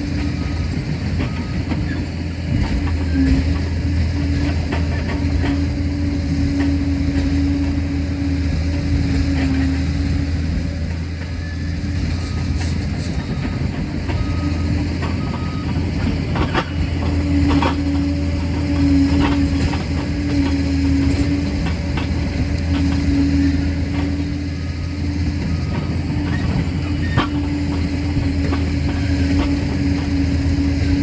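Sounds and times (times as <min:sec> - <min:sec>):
diesel engine running: 0:00.0 - 0:31.0
steel tracks clanking: 0:00.0 - 0:31.0.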